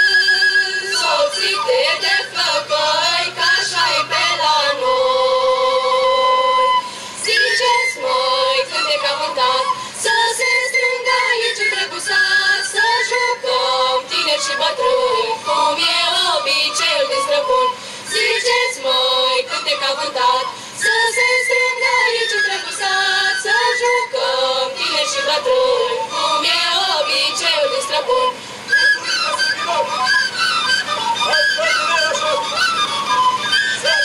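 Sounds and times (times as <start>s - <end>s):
folk choir singing: 0.0s - 34.0s.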